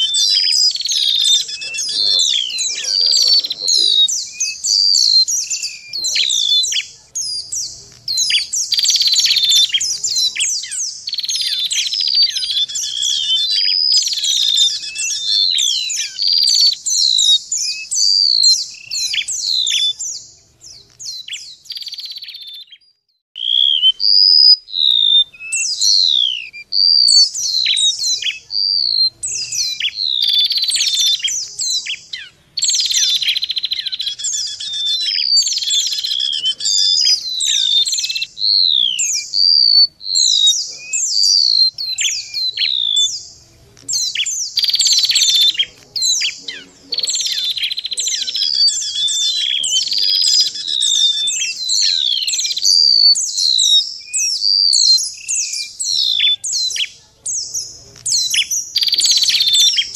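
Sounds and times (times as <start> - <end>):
sharp bird chirps: 0.0 - 59.9
songbirds singing: 0.0 - 59.9.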